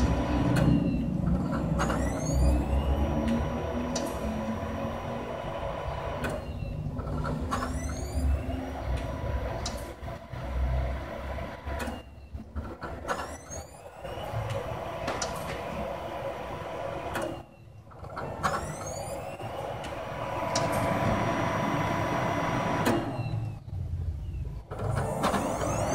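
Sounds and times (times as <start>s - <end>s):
computer fans and hard drive whirring: 0.0s - 25.9s.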